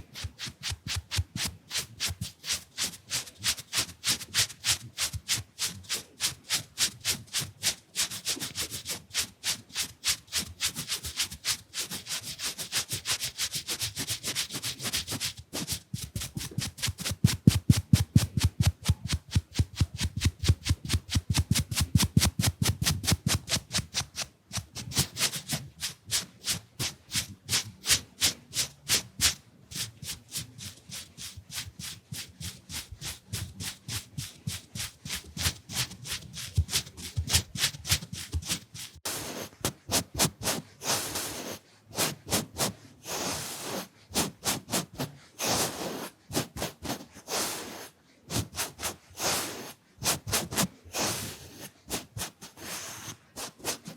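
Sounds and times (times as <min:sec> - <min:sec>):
brush bristles sweeping microphone: 0:00.0 - 0:06.7, 0:08.5 - 0:53.9.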